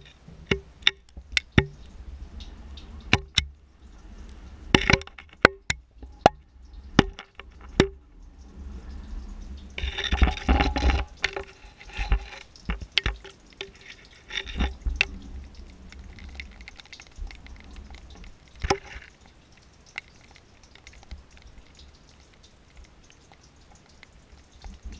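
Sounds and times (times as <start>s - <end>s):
water dripping in well shaft: 0.0s - 24.9s
water splashing: 0.0s - 24.9s.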